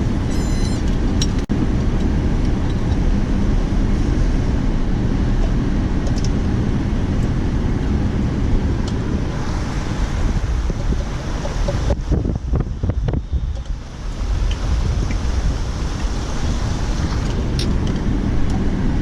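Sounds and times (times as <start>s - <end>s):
vehicle rumbling in motion: 0.0s - 19.0s
wind on microphone: 0.0s - 19.0s.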